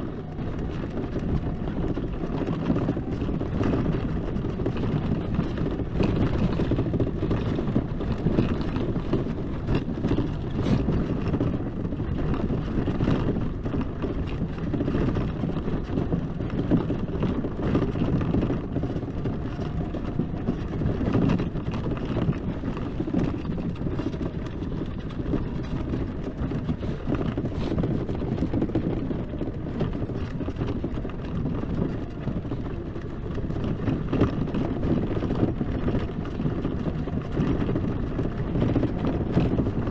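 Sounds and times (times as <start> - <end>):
tyres rumbling over rough ground: 0.0 - 39.9
wind on microphone: 0.0 - 39.9.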